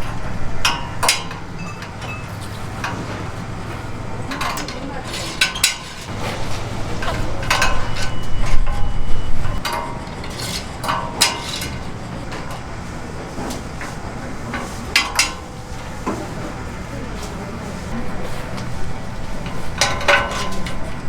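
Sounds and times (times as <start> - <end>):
utensils and cookware clanking: 0.0 - 21.0.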